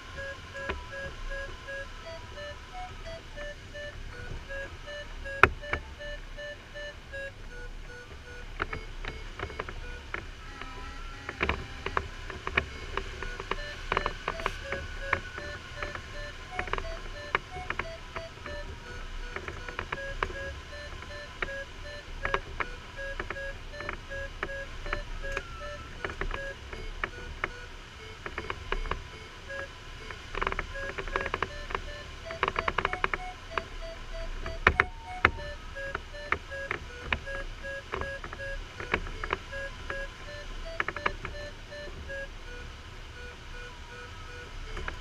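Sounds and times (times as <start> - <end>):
variometer beeping: 0.0 - 45.0.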